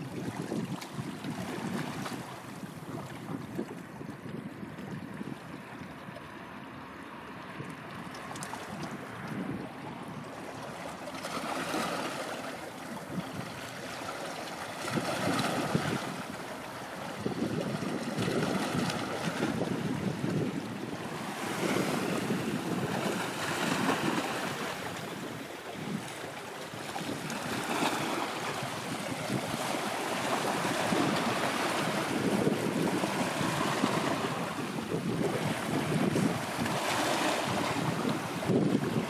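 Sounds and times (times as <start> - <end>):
wind gusting on microphone: 0.0 - 5.9, 7.3 - 12.3, 12.9 - 39.0
waves washing: 0.0 - 39.0.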